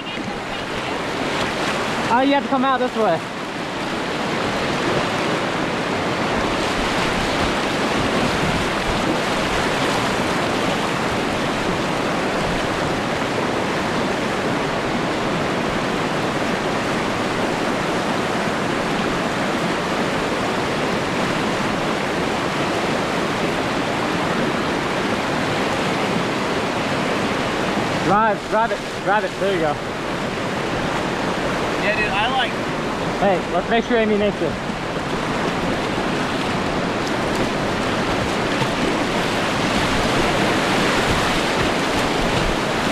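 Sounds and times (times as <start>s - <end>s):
whitewater rushing: 0.0s - 42.9s.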